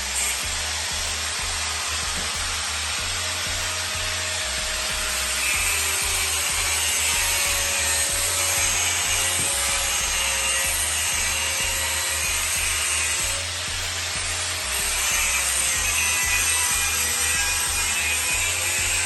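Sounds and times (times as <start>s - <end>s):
abrasive power tool rasping: 0.0s - 19.0s
background music: 0.0s - 19.0s.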